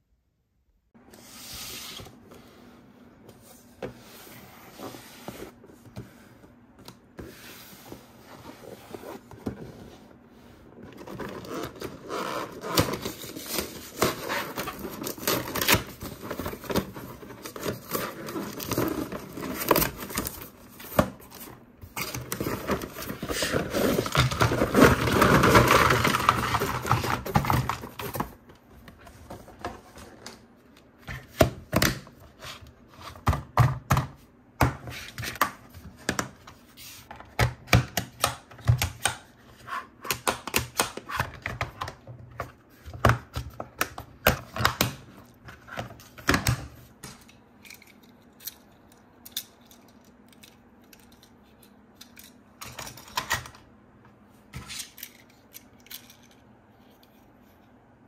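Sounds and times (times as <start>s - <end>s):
plastic toys and packaging handled: 3.3s - 34.0s, 34.8s - 53.7s, 54.4s - 57.8s.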